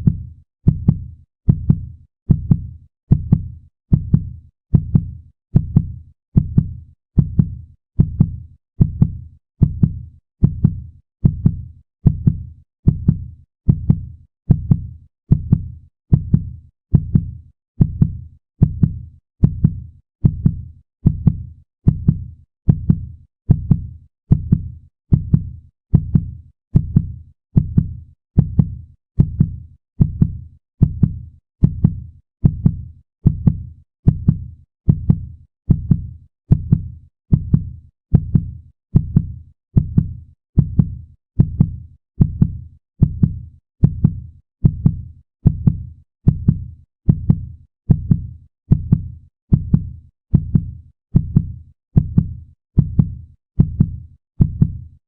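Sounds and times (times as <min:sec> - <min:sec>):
fast heartbeat thuds: 0:00.0 - 0:54.8.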